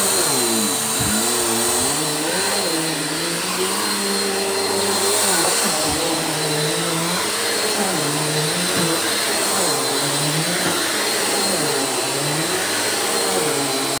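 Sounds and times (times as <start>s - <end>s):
vacuum cleaner on carpet: 0.0s - 14.0s.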